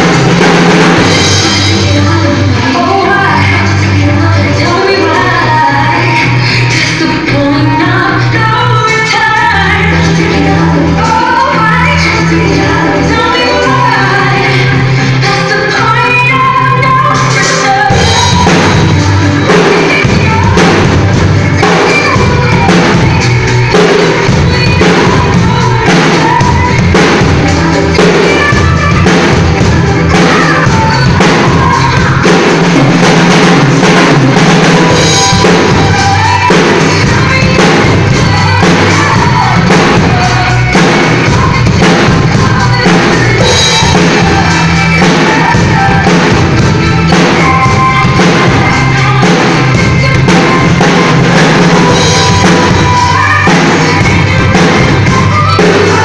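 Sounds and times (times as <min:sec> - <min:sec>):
bass drum: 0:00.0 - 0:07.6, 0:17.7 - 0:56.0
recorded song with singing: 0:00.0 - 0:56.0.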